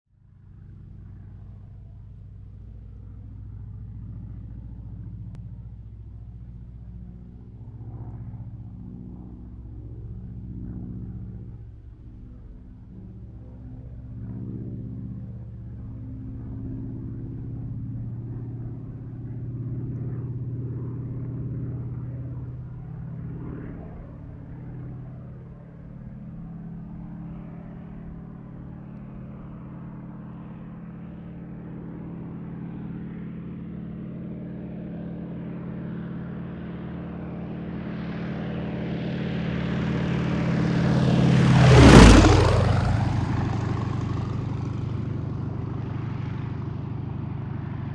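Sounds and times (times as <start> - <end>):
airplane flying past: 0.2 - 47.9.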